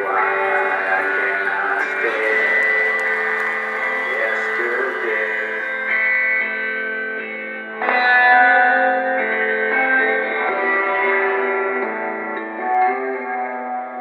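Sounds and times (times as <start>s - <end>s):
electric guitar chords with effects: 0.0s - 14.0s.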